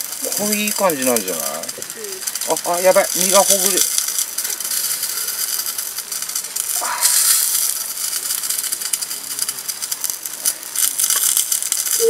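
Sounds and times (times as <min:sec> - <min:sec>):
fish sizzling in smoker: 0:00.0 - 0:12.0.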